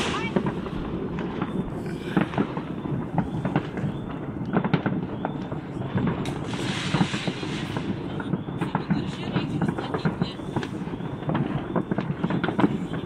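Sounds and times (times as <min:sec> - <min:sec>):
crackling hiss of firecrackers: 0:00.0 - 0:13.0
fireworks bangs and pops: 0:00.0 - 0:13.0.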